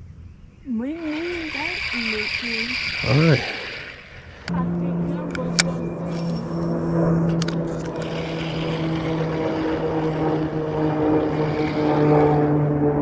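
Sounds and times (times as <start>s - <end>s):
boat motor humming: 0.7s - 13.0s.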